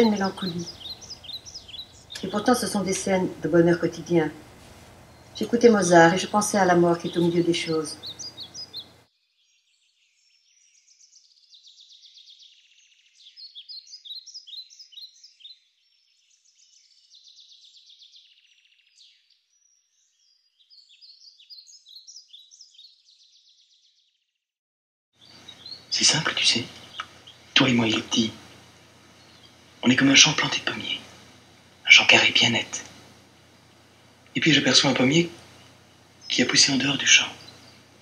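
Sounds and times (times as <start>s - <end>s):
birds chirping and trilling: 0.0s - 24.4s, 25.2s - 38.0s.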